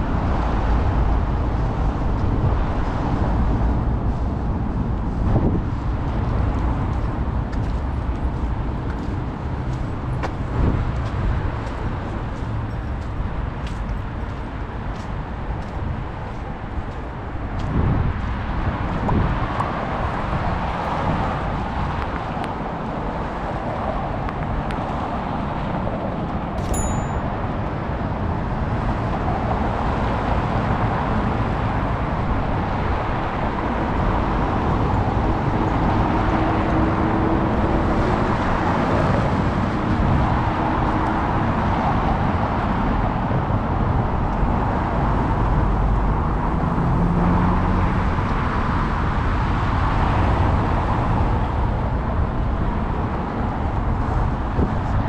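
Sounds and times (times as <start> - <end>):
city road traffic: 0.0 - 55.0.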